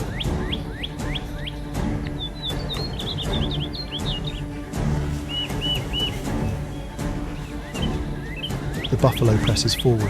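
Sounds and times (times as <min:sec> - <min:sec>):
bird chirps: 0:00.0 - 0:10.0
music with low sustained notes: 0:00.0 - 0:10.0.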